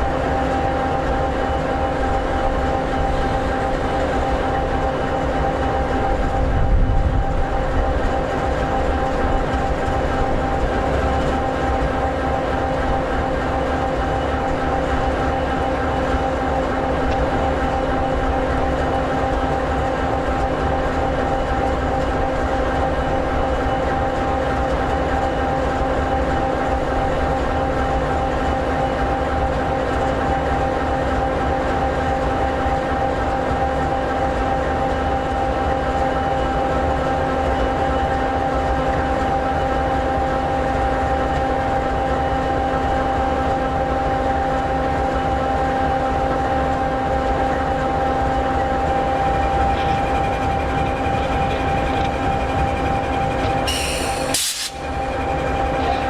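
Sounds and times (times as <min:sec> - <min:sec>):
diesel locomotive idling: 0:00.0 - 0:56.0.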